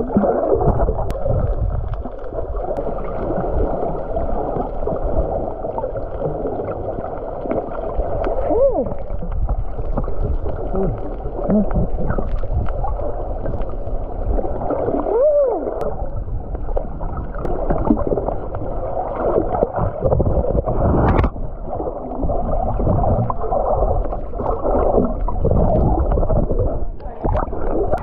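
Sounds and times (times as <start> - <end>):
underwater sloshing and gurgling: 0.0 - 28.0.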